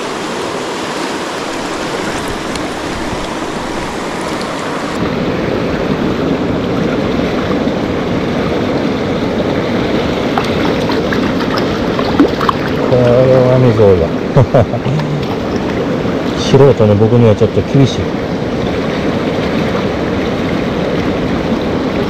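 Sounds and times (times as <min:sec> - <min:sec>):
river rushing over rocks: 0:00.0 - 0:14.3, 0:15.0 - 0:22.0.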